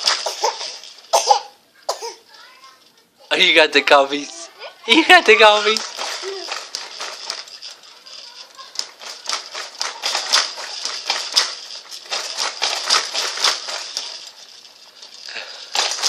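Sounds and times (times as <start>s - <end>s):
baby bouncer rattling and clicking: 0.0s - 2.6s, 4.9s - 16.0s.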